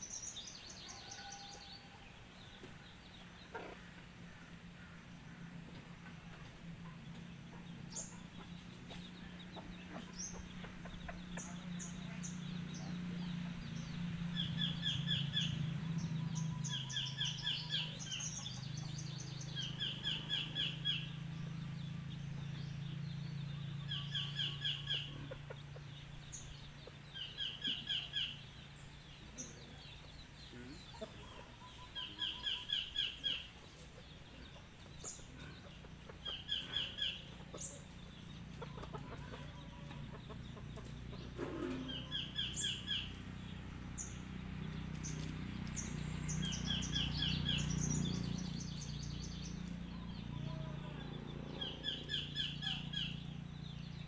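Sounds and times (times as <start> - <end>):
bird calls: 0.0 - 54.0.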